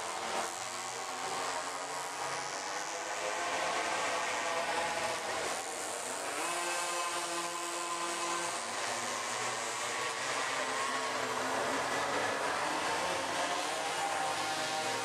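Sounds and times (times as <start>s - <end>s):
small engines buzzing at high revs: 0.0s - 15.0s.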